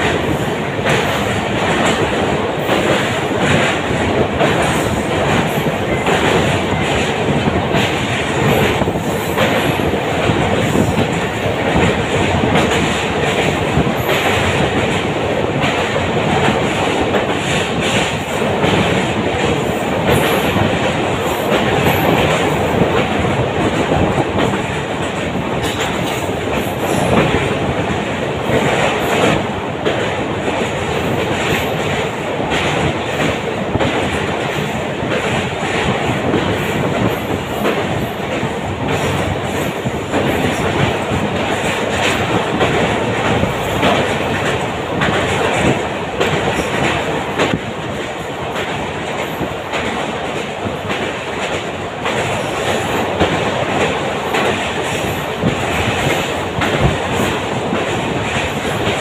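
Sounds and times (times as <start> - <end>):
rapid train clatter: 0.0 - 59.0
train wheels rumbling on rails: 0.0 - 59.0.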